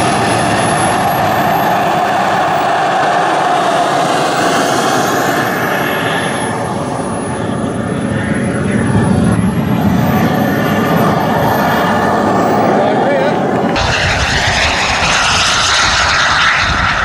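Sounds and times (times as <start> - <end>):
high turbine whine: 0.0 - 17.0
model jet turbine roar: 0.0 - 17.0.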